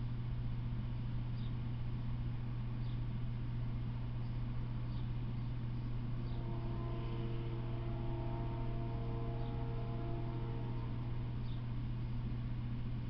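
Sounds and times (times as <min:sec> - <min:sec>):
low electrical hum: 0:00.0 - 0:13.0
faint distant drone: 0:02.3 - 0:13.0.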